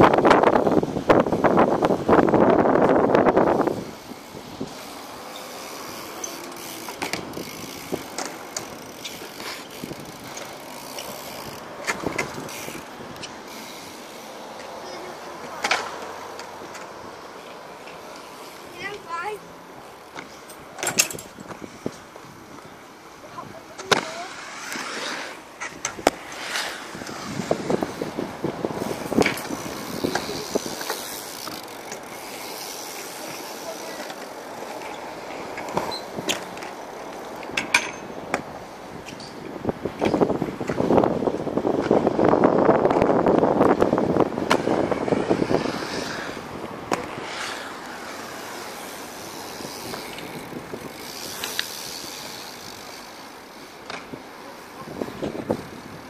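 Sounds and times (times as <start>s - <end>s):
light clicks and knocks from bikes: 0.0s - 56.0s
steady background hiss: 0.0s - 56.0s
wheels rolling on concrete: 0.0s - 56.0s.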